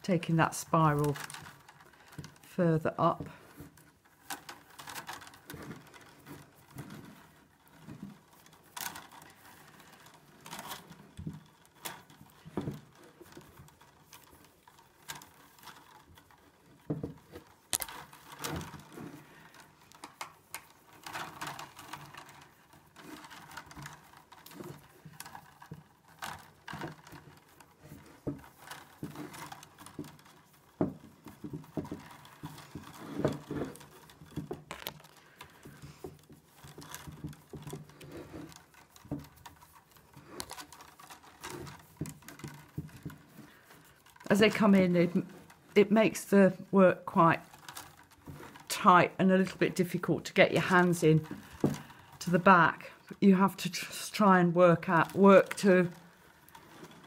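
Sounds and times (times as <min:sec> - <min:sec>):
willow rods tapping and rustling: 0:00.0 - 0:57.0.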